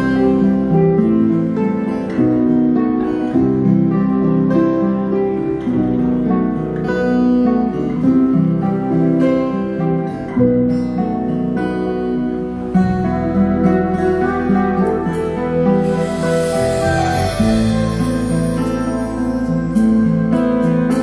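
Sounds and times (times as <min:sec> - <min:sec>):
guitar chords: 0:00.0 - 0:21.0
keyboard chords: 0:00.0 - 0:21.0.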